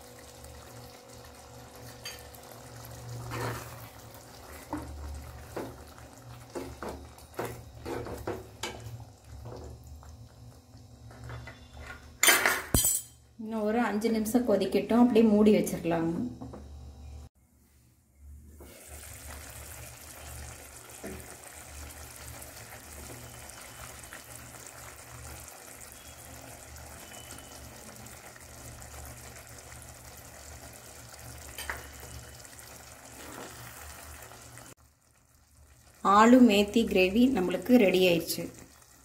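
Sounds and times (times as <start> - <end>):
curry simmering with sizzling hiss: 0.0 - 12.3, 18.6 - 39.0.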